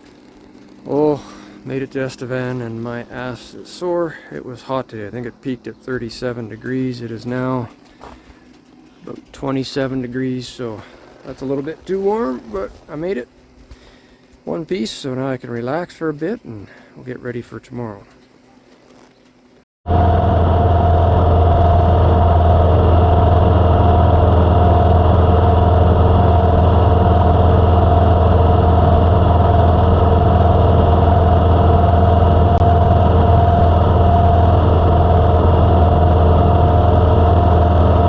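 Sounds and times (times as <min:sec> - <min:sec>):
motorcycle engine droning: 0:00.0 - 0:38.0.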